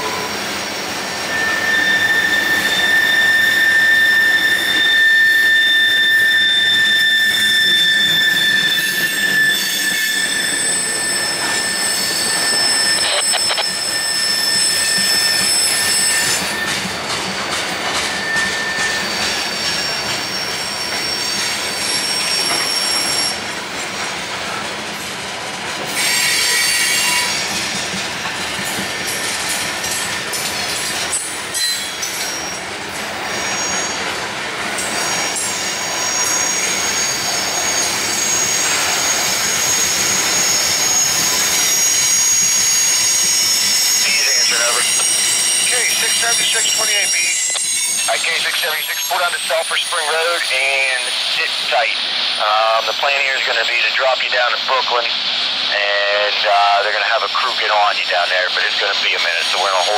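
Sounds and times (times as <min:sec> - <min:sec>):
high-pitched wheel squeal: 0:00.0 - 0:17.2, 0:17.8 - 0:23.5, 0:25.9 - 0:27.9, 0:28.8 - 0:53.7, 0:59.2 - 0:59.9
freight train rolling past: 0:00.0 - 0:59.9.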